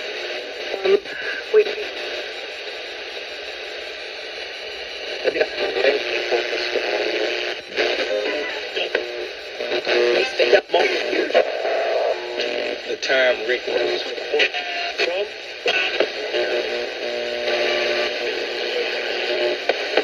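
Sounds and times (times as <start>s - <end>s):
radio hiss: 0.0s - 20.0s
radio music through small speaker: 0.0s - 20.0s.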